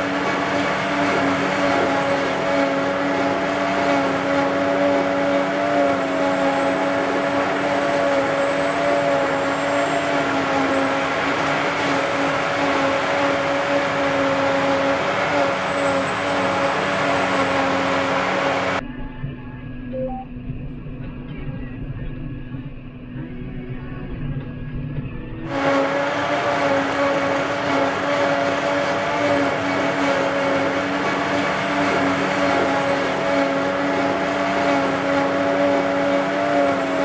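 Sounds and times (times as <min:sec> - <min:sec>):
machine hum with held tones: 0:00.0 - 0:37.0.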